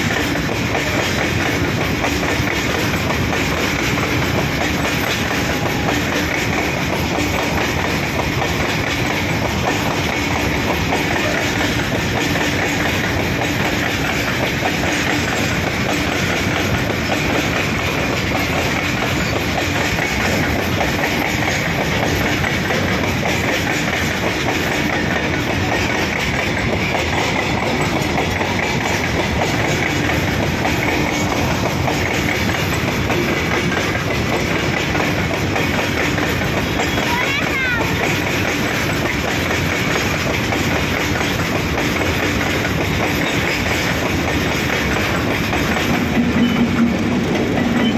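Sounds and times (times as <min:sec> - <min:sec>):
freight train wheels clattering: 0:00.0 - 0:47.9.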